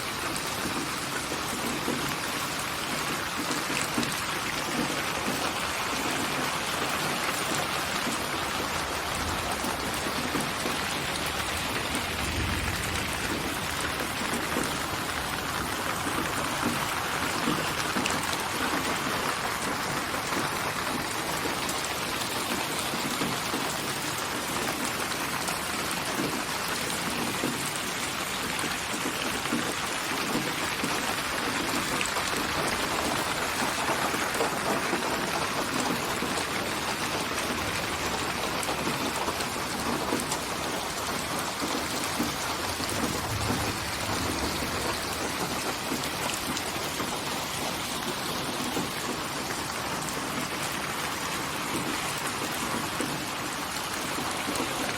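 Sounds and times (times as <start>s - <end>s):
rain pattering: 0.0s - 54.9s.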